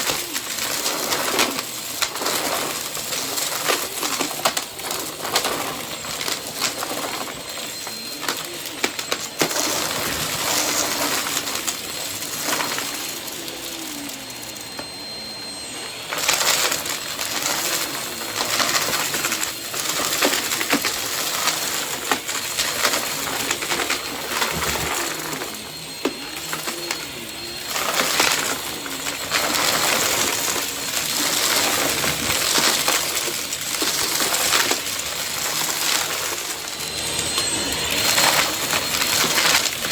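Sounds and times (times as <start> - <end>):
debris crackling up vacuum: 0.0 - 39.9
vacuum cleaner running: 0.0 - 39.9.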